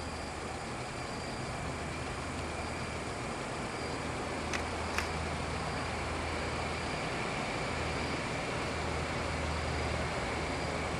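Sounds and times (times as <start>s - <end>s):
outdoor background hiss: 0.0s - 10.9s.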